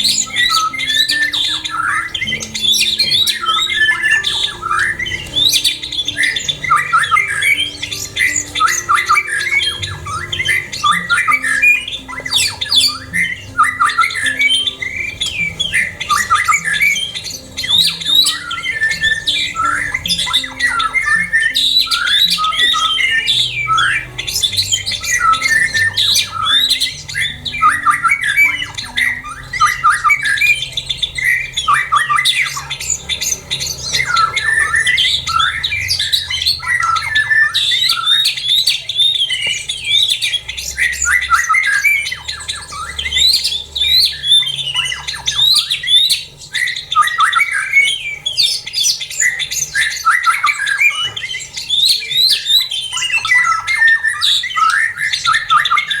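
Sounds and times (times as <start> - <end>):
songbirds chirping and squawking: 0.0 - 56.0.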